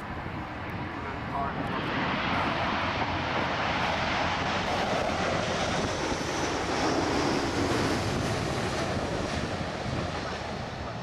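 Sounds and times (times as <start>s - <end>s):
jet engine rush: 0.0s - 11.0s.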